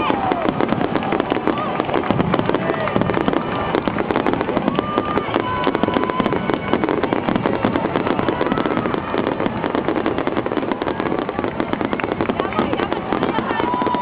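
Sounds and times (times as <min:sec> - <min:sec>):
fireworks bursts and crackling: 0:00.0 - 0:14.0.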